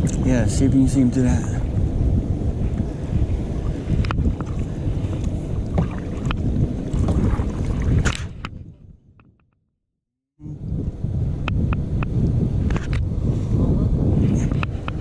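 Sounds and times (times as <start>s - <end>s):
wind rumbling on microphone: 0.0s - 9.6s, 10.4s - 15.0s.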